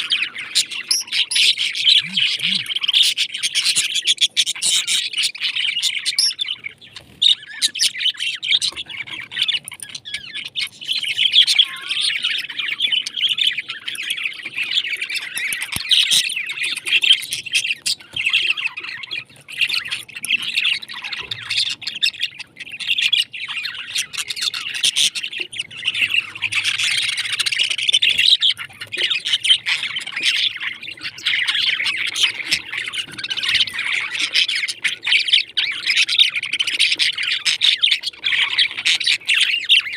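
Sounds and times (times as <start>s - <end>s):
parrots chirping and chattering: 0.0s - 39.9s.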